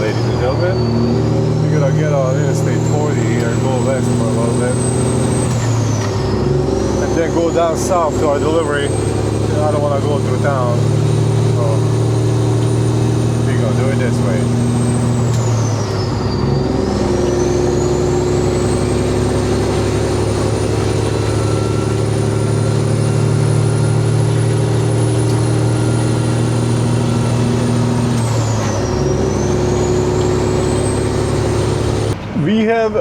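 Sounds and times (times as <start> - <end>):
high turbo whistle: 0.0 - 32.2
diesel truck engine under load: 0.0 - 33.0.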